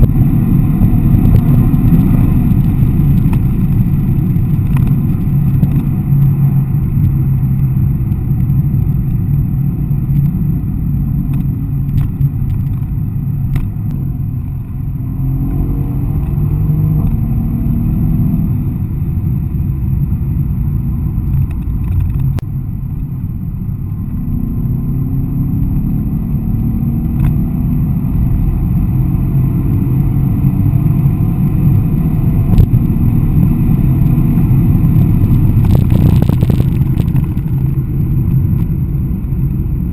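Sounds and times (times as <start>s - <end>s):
car engine running hard: 0.0s - 39.9s
road noise: 0.0s - 39.9s.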